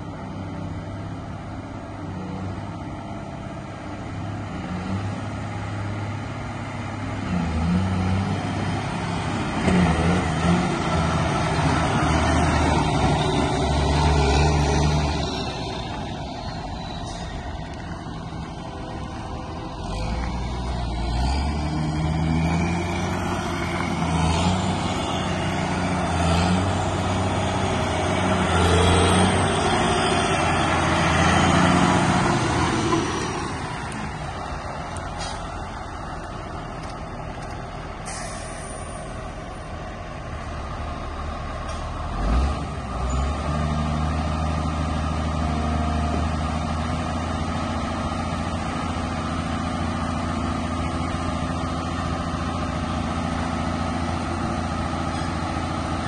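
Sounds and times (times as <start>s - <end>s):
diesel engine driving by: 0.0s - 56.0s.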